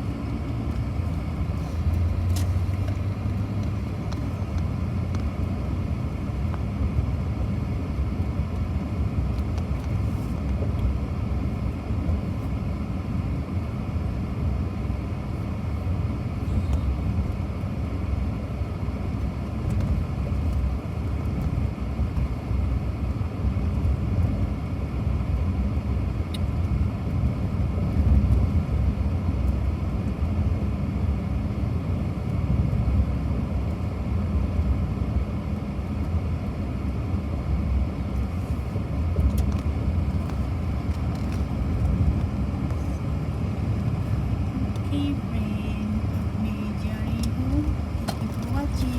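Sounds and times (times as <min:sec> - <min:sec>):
car driving rumble: 0:00.0 - 0:48.9.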